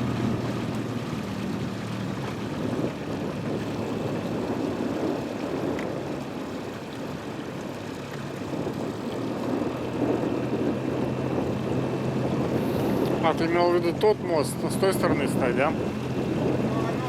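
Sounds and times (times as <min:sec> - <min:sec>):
boat motor running: 0:00.0 - 0:17.0
rushing water: 0:00.0 - 0:17.0
wind: 0:00.0 - 0:17.0.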